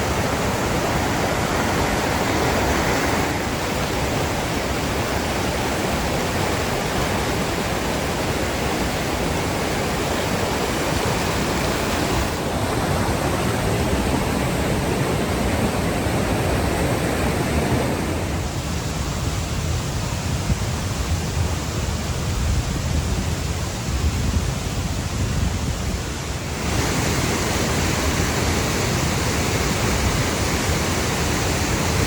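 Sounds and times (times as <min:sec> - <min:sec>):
waterfall rushing: 0:00.0 - 0:20.1, 0:25.7 - 0:32.0.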